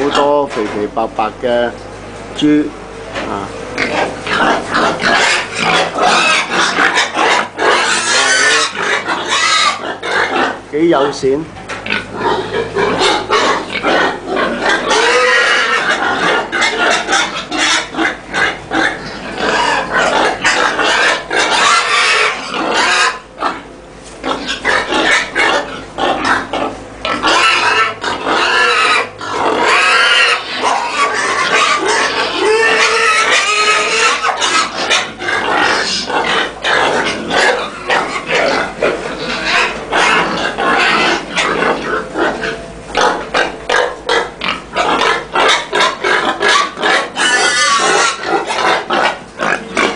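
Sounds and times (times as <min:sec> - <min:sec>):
pigs squealing and grunting: 0:00.0 - 0:02.0, 0:03.1 - 0:49.9.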